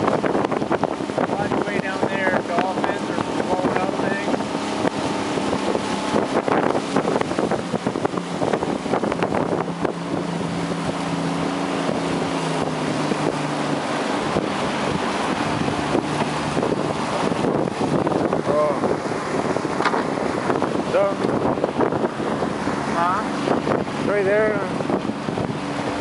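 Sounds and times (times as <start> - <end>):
boat motor running: 0.0 - 26.0
water noise: 0.0 - 26.0
wind buffeting microphone: 0.0 - 26.0.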